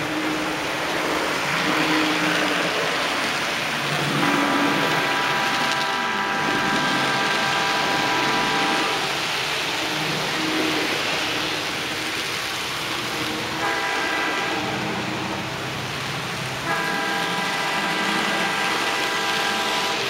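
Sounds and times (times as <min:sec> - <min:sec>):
electronic train horn blasts: 0:00.0 - 0:12.2, 0:12.9 - 0:15.8, 0:16.6 - 0:20.0
model train running: 0:00.0 - 0:20.0.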